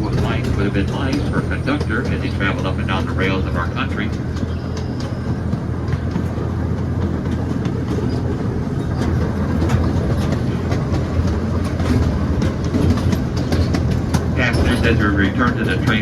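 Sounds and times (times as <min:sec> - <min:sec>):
miniature train wheels rumbling: 0:00.0 - 0:16.0.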